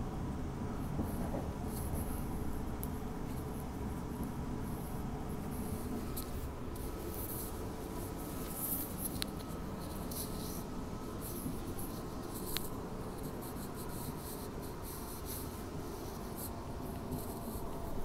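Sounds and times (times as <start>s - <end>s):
faint steady tones: 0.0s - 18.0s.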